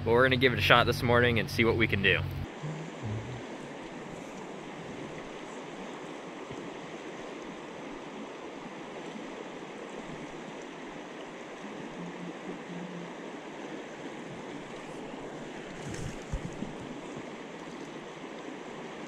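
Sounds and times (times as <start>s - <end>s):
river water over gravel: 3.5s - 19.0s.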